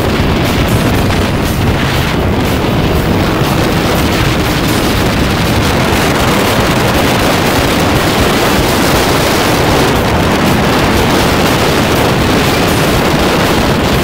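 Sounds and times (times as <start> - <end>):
vehicle engine: 0.0 - 14.0
wind rushing on microphone: 0.0 - 14.0.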